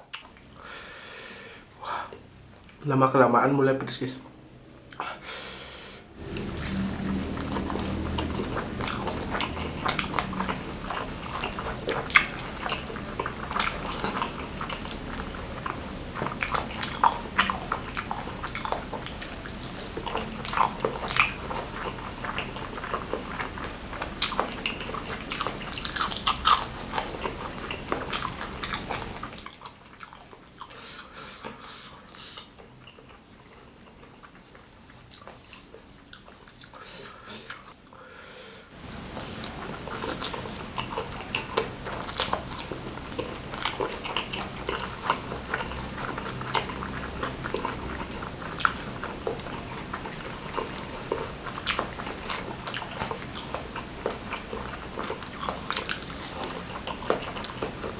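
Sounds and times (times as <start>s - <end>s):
chewing and biting: 6.2s - 37.9s, 38.8s - 57.9s.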